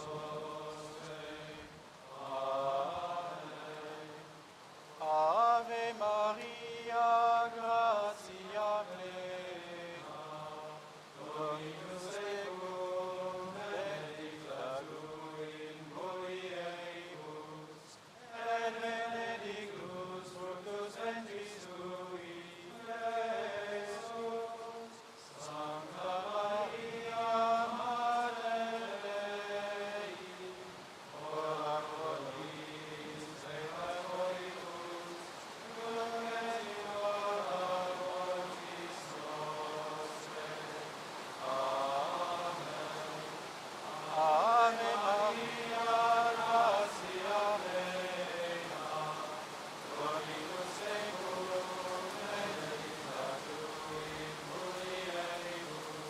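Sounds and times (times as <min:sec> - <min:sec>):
crowd chanting prayers in unison: 0:00.0 - 0:56.0
leading voice chanting prayers: 0:00.0 - 0:56.0.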